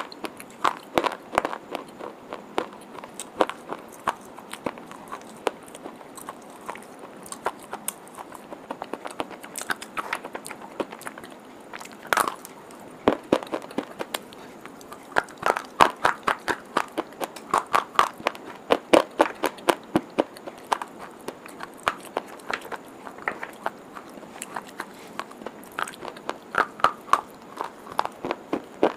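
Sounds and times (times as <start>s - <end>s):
chalk being chewed: 0.0s - 28.9s.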